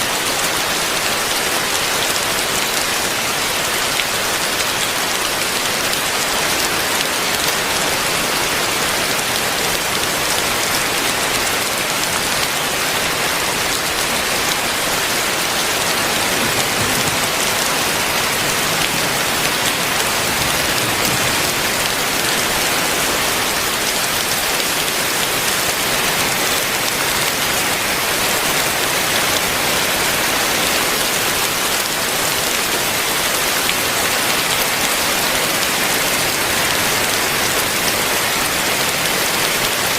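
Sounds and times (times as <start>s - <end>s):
heavy rain hissing: 1.5s - 39.7s.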